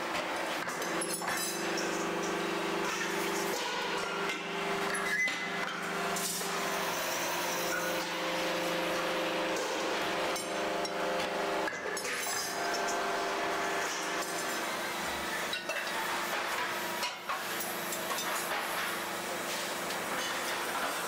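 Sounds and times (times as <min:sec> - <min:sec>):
milling machine humming: 0:00.3 - 0:18.1.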